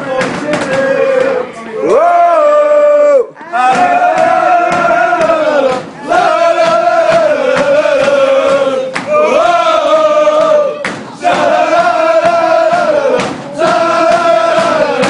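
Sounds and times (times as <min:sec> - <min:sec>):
crowd chanting in unison: 0:00.0 - 0:02.8, 0:03.4 - 0:15.0.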